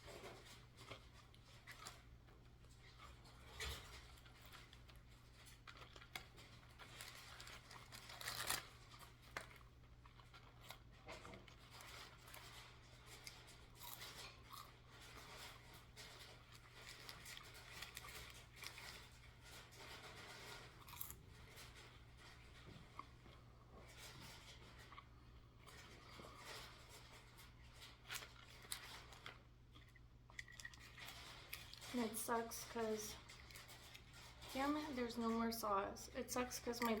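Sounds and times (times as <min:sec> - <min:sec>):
crunching and chewing food: 0:00.0 - 0:37.0
small crackles and rustles: 0:00.0 - 0:37.0.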